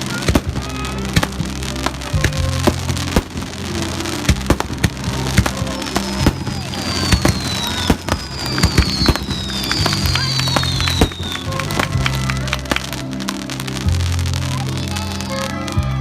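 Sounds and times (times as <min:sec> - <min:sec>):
firework whistles sliding down: 0:00.0 - 0:13.8
fireworks bangs and crackles: 0:00.0 - 0:16.0.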